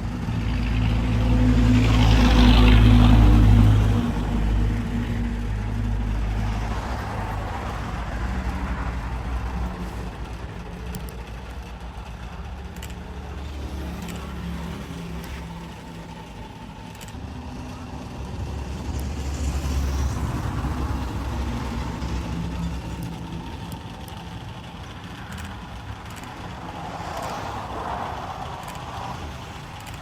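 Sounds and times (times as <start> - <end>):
motor engine running: 0.0 - 30.0.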